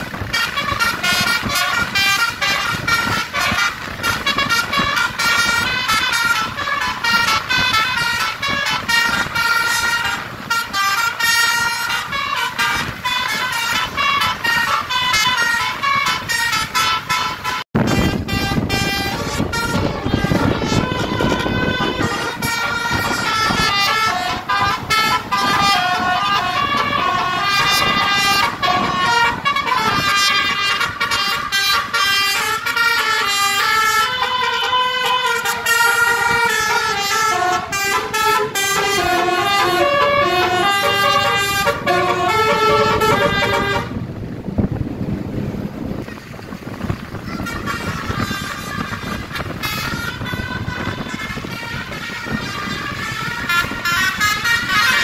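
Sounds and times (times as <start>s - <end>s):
multi-tone bus horn melody: 0.0s - 44.8s, 46.8s - 55.0s
bus engine and road noise: 0.0s - 55.0s.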